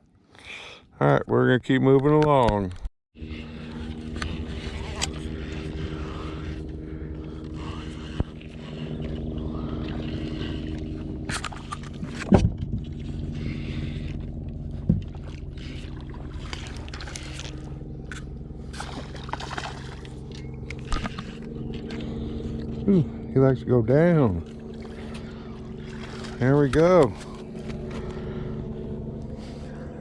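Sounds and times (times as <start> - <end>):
boat motor humming: 3.2 - 30.0.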